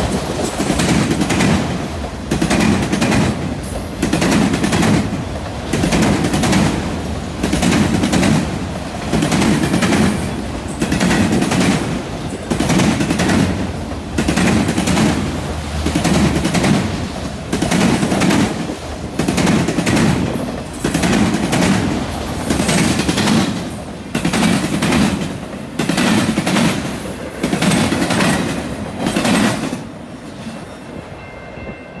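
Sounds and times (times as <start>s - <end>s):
steel wheels clattering over rail joints: 0.0s - 29.9s
freight train rolling past: 0.0s - 32.0s.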